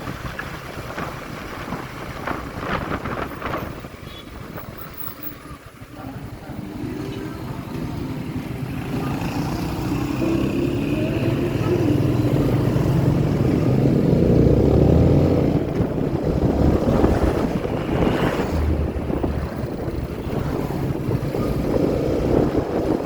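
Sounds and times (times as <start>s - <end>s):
wind rumble on microphone: 0.0s - 6.6s, 9.7s - 23.0s
motorcycle engine running: 0.1s - 23.0s.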